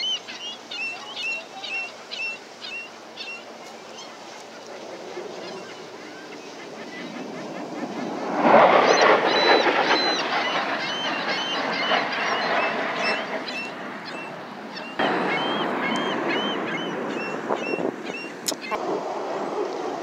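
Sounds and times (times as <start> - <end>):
birds calling: 0.0 - 19.6
jet aircraft roaring overhead: 0.0 - 20.0.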